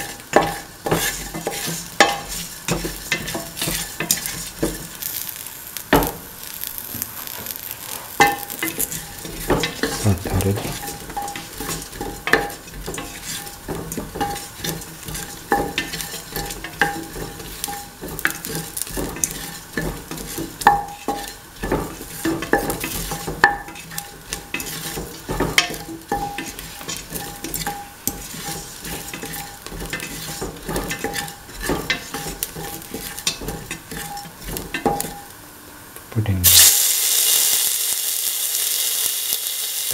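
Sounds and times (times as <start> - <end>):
spatula scraping metal pan: 0.0 - 4.8, 7.9 - 35.2
food sizzling in oil: 0.0 - 39.9.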